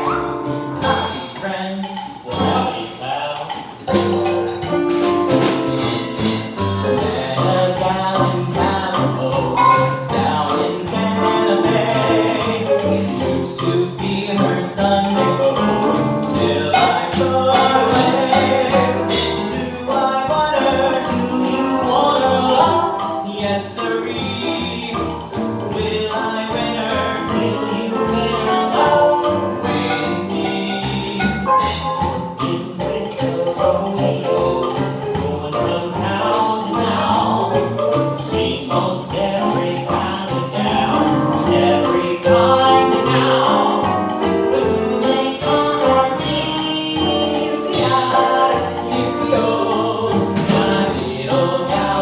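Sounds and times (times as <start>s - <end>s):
instrumental accompaniment: 0.0s - 52.0s
steady percussive beat: 0.0s - 52.0s
voices singing: 0.0s - 52.0s.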